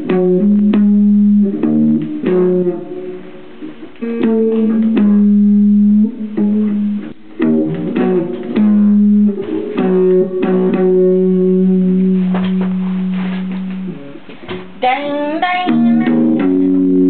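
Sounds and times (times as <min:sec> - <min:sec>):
guitar plucking and strumming: 0:00.0 - 0:17.0.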